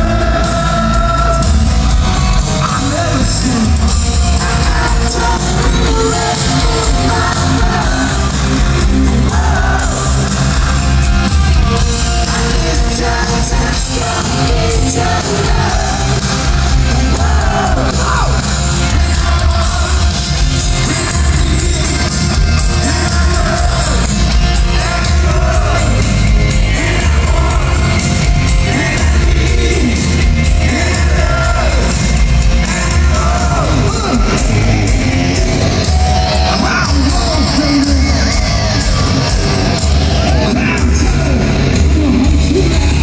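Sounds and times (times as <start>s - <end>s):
hard rock band playing live: 0.0s - 43.0s.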